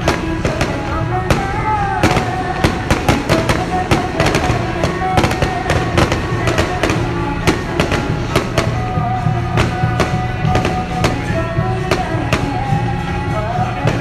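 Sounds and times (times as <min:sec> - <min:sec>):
firecrackers banging: 0:00.0 - 0:14.0
loud music with held notes: 0:00.0 - 0:14.0.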